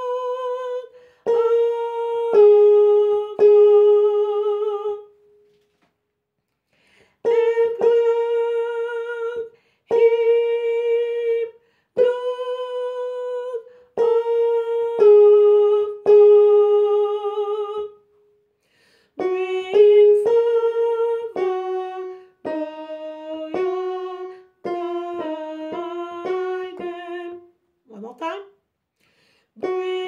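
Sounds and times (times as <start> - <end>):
woman singing: 0.0 - 5.2, 7.2 - 18.0, 19.2 - 28.4, 29.6 - 30.0.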